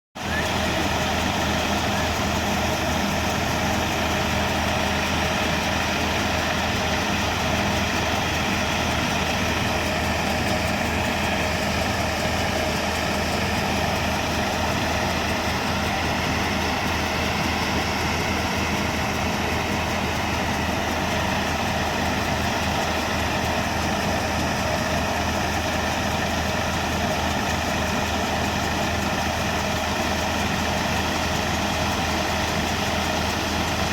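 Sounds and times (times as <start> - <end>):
threshing machine whirring: 0.2 - 33.9
tractor engine droning: 0.2 - 33.9.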